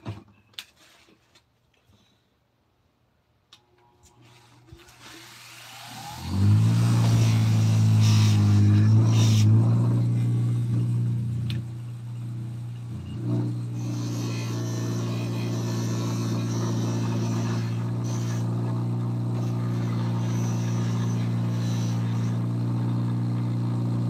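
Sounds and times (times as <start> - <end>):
motor humming: 4.1 - 24.0.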